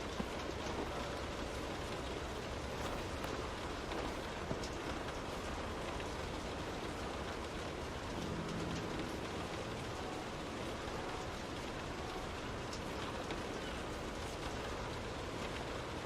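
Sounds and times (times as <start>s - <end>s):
rain on a window pane: 0.0s - 16.0s.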